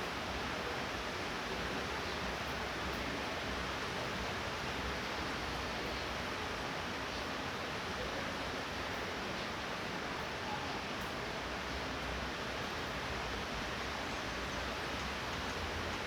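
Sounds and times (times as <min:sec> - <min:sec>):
light rain falling: 0:00.0 - 0:16.0.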